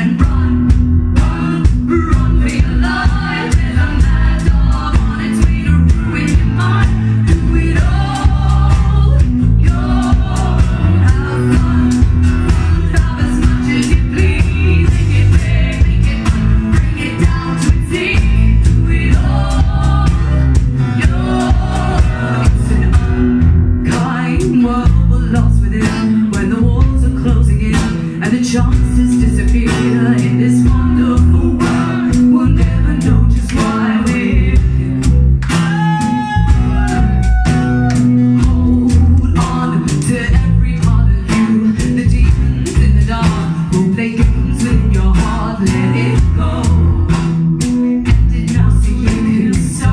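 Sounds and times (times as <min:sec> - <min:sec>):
live band music: 0:00.0 - 0:49.9
person singing: 0:00.0 - 0:49.9.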